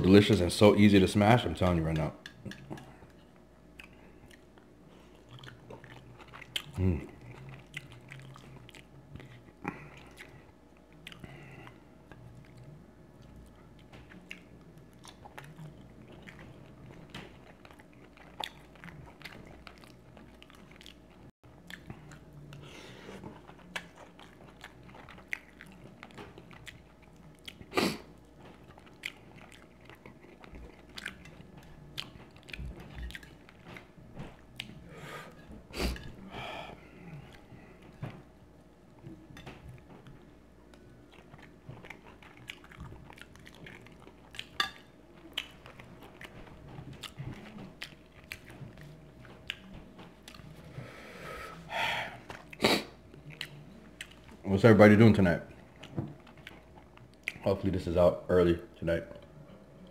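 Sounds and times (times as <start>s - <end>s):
person chewing food: 1.8s - 54.5s, 55.5s - 57.5s.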